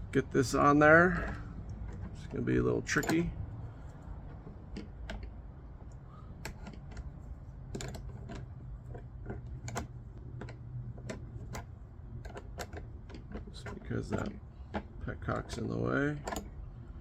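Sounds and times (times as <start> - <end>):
wrench clicking on bolt: 1.0 - 3.4, 4.7 - 16.6.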